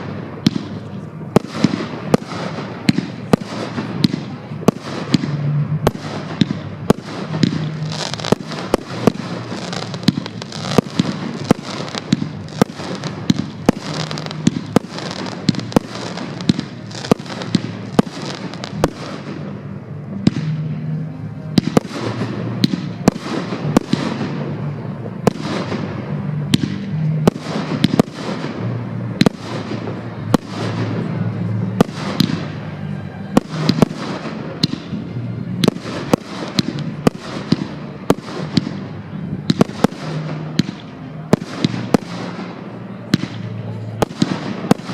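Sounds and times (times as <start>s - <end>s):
fireworks bangs: 0.0s - 44.9s
fireworks crackling and hissing: 0.0s - 44.9s.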